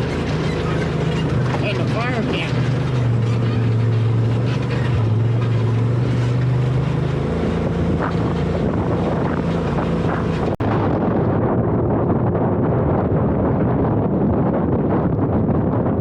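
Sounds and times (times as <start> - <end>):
utv engine running: 0.0 - 16.0
wind buffeting microphone: 0.0 - 16.0.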